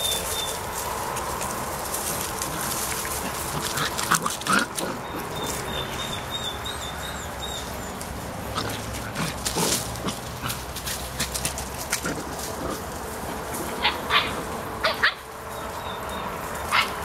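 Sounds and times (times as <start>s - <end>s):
paws rustling in dry leaves: 0.0s - 17.0s
puppies yelping: 0.0s - 17.0s.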